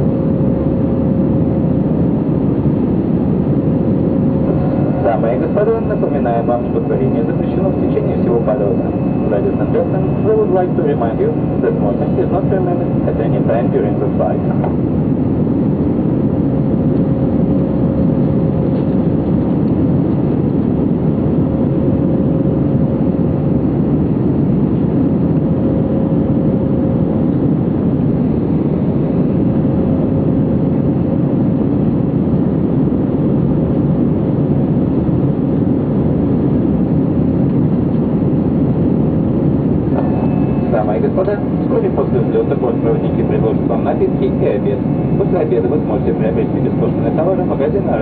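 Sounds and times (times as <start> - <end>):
jet engine and airflow noise: 0.0 - 48.0.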